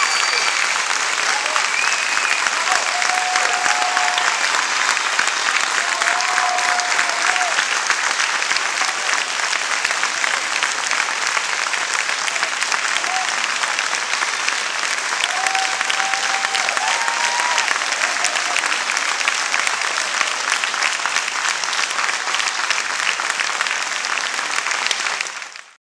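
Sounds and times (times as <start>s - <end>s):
audience applauding: 0.0s - 25.8s.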